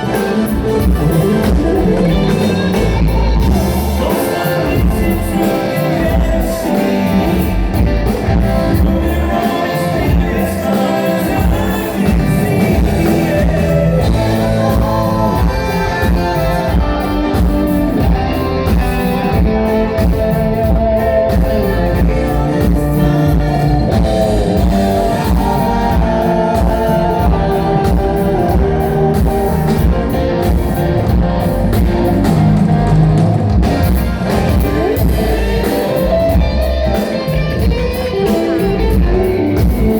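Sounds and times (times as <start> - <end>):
bass guitar: 0.0 - 39.9
drum kit: 0.0 - 39.9
electric guitar: 0.0 - 39.9
person singing: 0.0 - 39.9.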